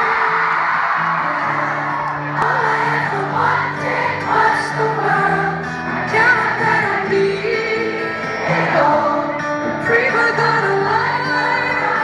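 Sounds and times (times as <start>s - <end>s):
person singing: 0.0s - 12.0s
pop band playing: 0.0s - 12.0s.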